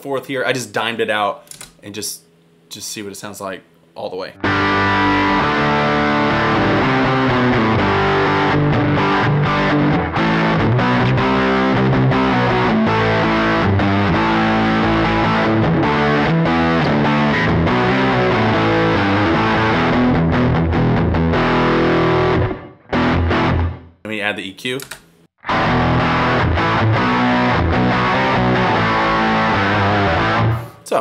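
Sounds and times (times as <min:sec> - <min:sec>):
distorted electric guitar chords: 0:04.4 - 0:24.0, 0:25.4 - 0:30.8.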